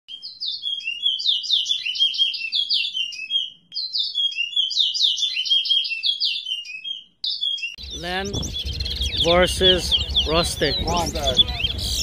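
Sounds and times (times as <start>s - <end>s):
songbird chirping: 0.1s - 12.0s.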